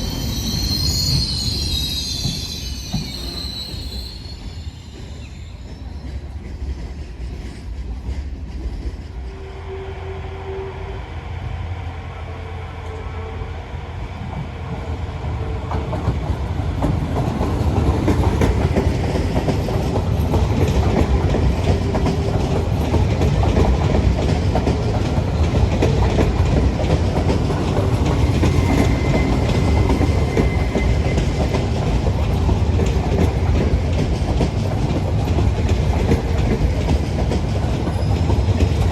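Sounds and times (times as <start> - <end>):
train wheels clacking on rails: 0.0 - 9.5, 14.2 - 38.9.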